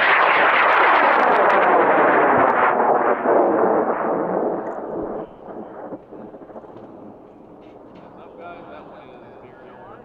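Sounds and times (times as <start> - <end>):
rocket motor crackling exhaust: 0.0 - 8.9.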